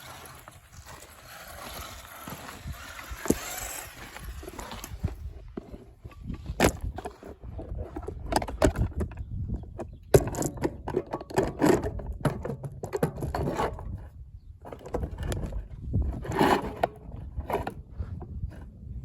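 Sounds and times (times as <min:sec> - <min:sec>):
toy car rattling over rough ground: 0:00.0 - 0:18.8.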